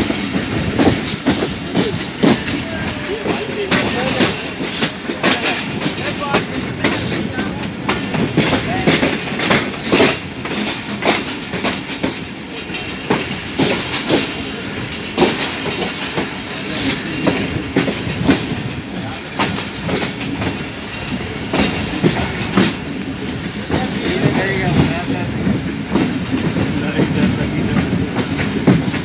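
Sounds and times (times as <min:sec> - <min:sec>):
train rumble: 0:00.0 - 0:29.0
train wheels clattering over rail joints: 0:00.0 - 0:29.0.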